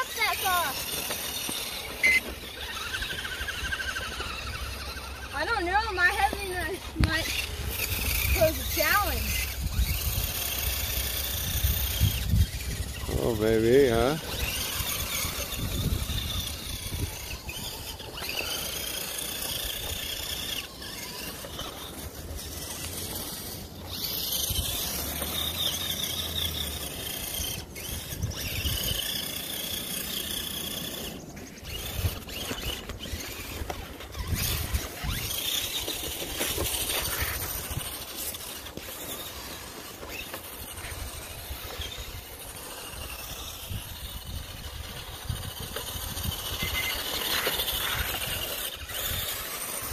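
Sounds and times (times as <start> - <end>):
rc truck motors whining: 0.0 - 49.9.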